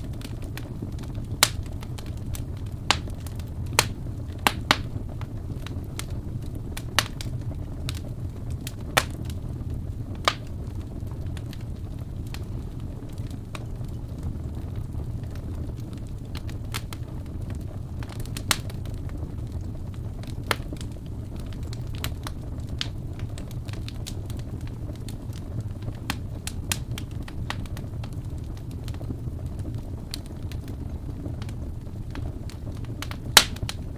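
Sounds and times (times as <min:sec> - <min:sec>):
loud fire snaps: 0:00.0 - 0:33.9
steady low rumble: 0:00.0 - 0:33.9
wood fire crackling and popping: 0:00.0 - 0:33.9.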